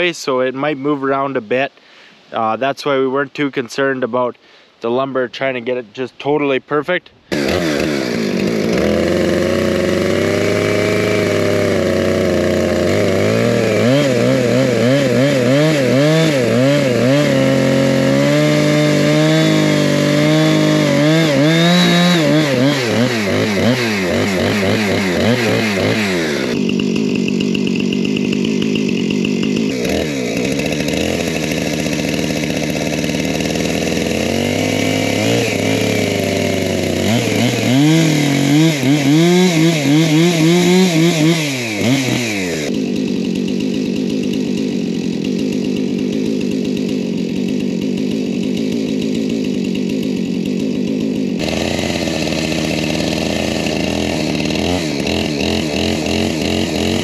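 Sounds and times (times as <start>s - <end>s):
chainsaw cutting wood: 7.3s - 57.0s.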